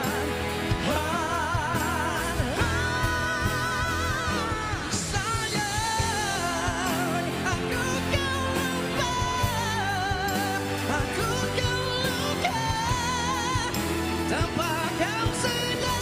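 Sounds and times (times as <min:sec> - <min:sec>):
live band with drum beat: 0:00.0 - 0:16.0
men singing pop ballad: 0:00.0 - 0:16.0.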